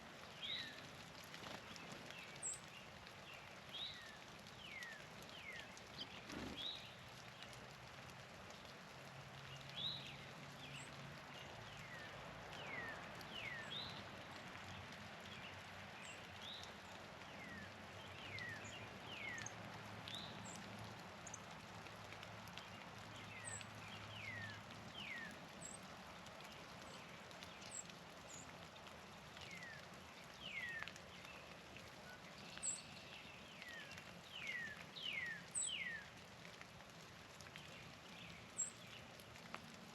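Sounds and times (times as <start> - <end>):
songbirds chirping: 0.2 - 7.8, 8.4 - 36.6, 37.4 - 39.8.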